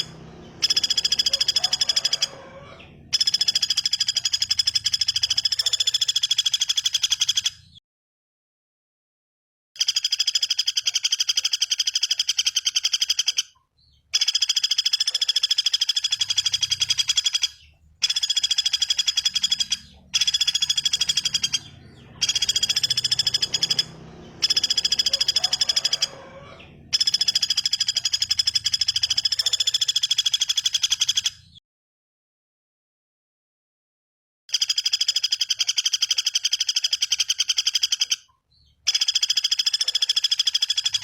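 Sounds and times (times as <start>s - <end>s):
bird trilling: 0.0s - 7.8s, 9.8s - 31.6s, 34.5s - 41.0s.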